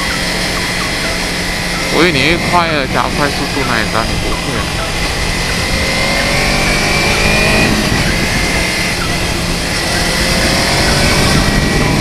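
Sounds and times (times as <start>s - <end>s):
motorcycle engine running: 0.0s - 12.0s
wind rush: 1.4s - 12.0s.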